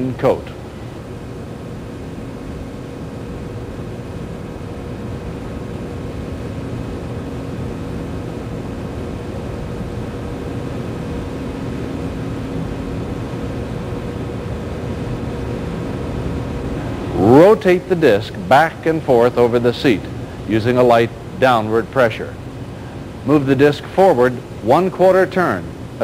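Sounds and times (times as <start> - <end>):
steady hum and hiss: 0.0 - 26.0.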